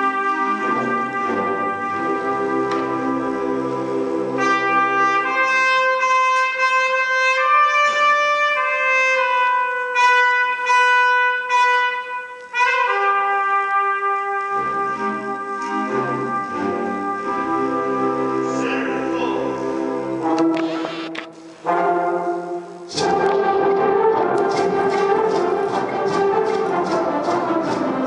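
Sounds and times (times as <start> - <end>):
solo trumpet melody: 0.0 - 28.0.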